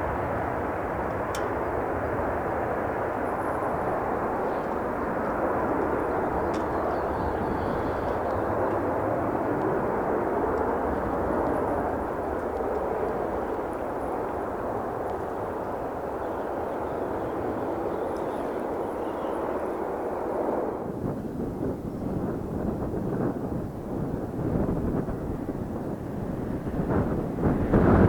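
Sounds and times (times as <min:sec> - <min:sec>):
aircraft engines roaring: 0:00.0 - 0:28.0
wind buffeting microphone: 0:00.0 - 0:28.0.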